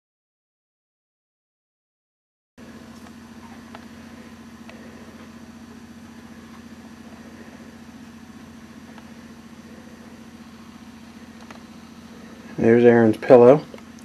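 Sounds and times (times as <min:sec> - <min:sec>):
low mechanical hum: 0:02.6 - 0:14.0.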